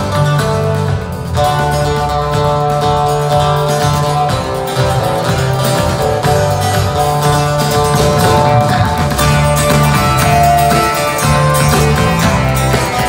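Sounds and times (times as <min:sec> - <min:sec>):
light percussion: 0:00.0 - 0:13.0
low bass line: 0:00.0 - 0:13.0
strummed acoustic guitars: 0:00.0 - 0:13.0.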